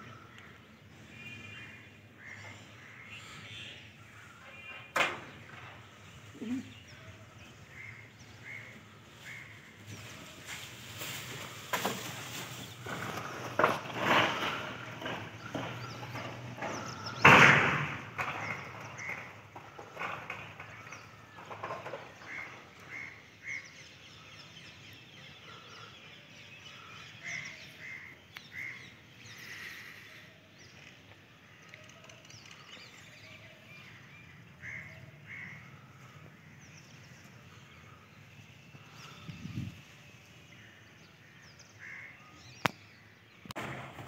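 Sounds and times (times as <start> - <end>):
birds calling: 0.0 - 44.0
outdoor background noise: 0.0 - 44.0.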